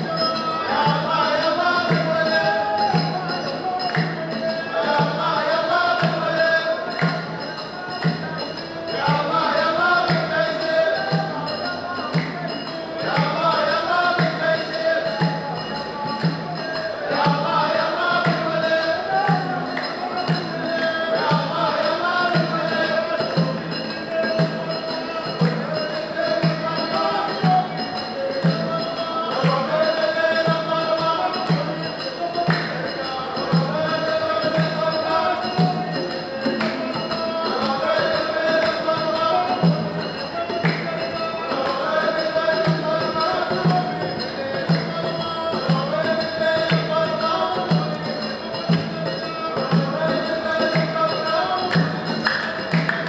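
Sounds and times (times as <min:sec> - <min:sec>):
group singing: 0:00.0 - 0:53.0
jingling hand percussion: 0:00.0 - 0:53.0.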